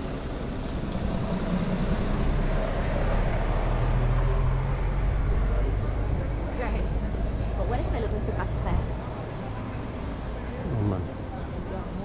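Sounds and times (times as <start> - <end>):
city traffic: 0.0 - 12.0.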